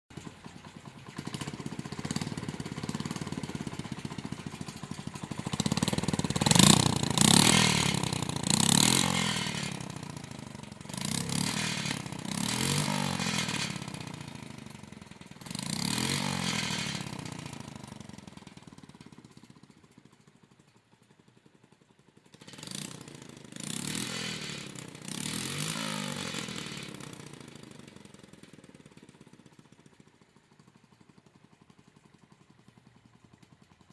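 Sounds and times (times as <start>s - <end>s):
motorcycle engine revving: 0.1s - 20.3s, 22.1s - 33.9s.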